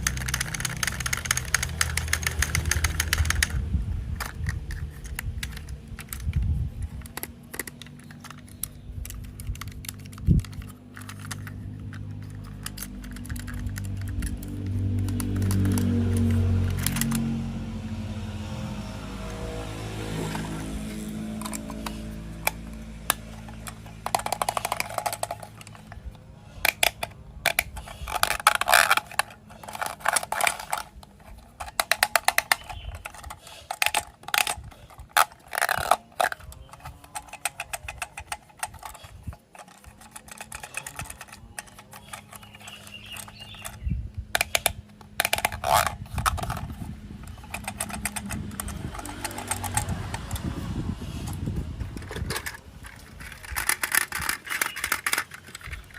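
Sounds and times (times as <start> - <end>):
plastic toy parts clicking and rattling: 0.0 - 17.4, 20.1 - 55.9.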